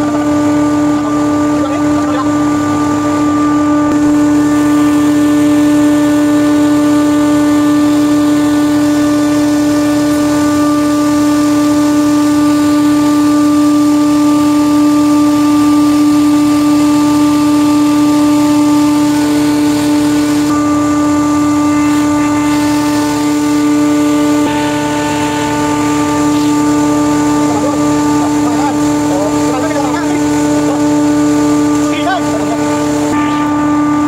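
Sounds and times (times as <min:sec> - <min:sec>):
loud steady machine hum: 0:00.0 - 0:34.0.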